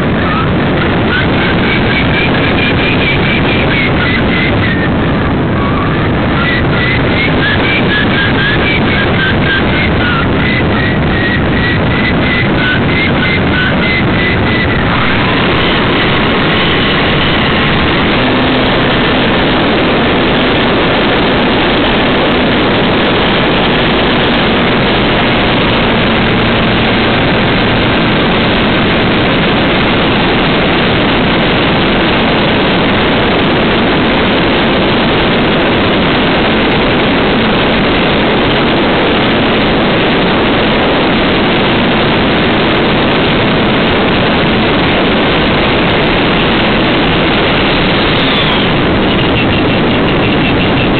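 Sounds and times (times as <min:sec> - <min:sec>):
aircraft engine and propeller: 0:00.0 - 0:50.9
heavy wind rush: 0:00.0 - 0:50.9.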